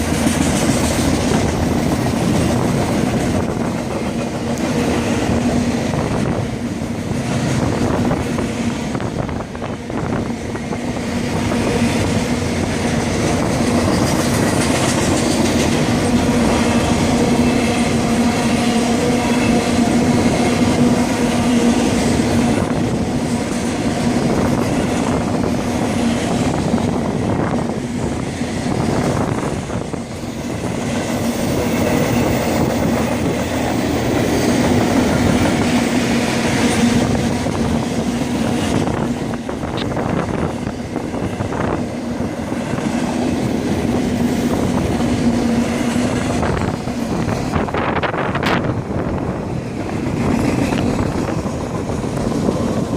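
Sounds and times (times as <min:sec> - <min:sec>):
clickety-clack over rail joints: 0:00.0 - 0:52.9
freight train wheels rumbling on rail: 0:00.0 - 0:52.9.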